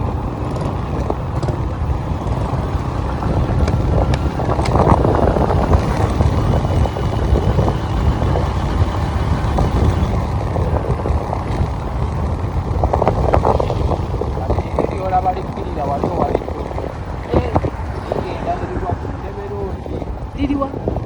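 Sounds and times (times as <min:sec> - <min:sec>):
road and wind noise: 0:00.0 - 0:21.0
vehicle engine rumble: 0:00.0 - 0:21.0.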